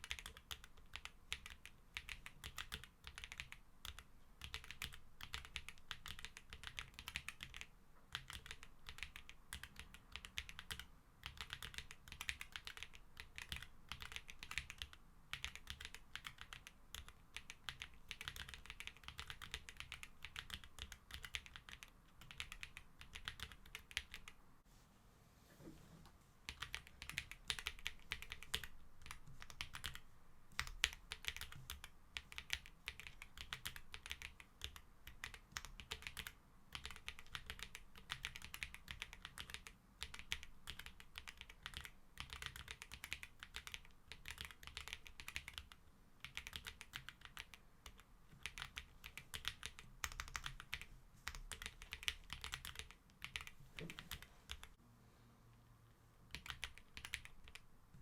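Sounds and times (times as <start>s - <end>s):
mechanical keyboard typing: 0.0s - 24.4s, 26.5s - 30.0s, 30.6s - 54.7s, 56.3s - 57.6s.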